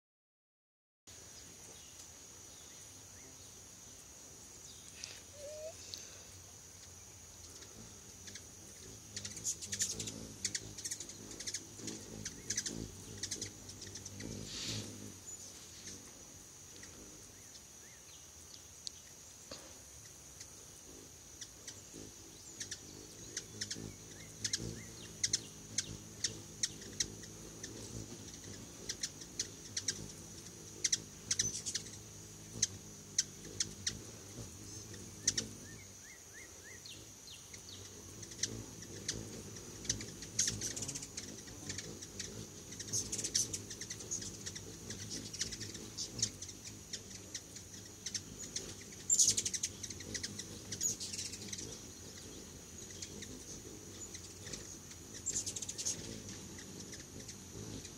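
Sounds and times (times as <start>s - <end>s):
hummingbird chip calls: 4.6s - 19.0s, 20.0s - 57.9s.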